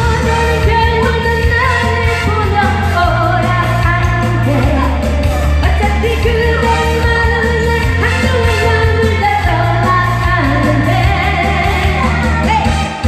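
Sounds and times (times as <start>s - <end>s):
pop music with bass beat: 0.0s - 13.0s.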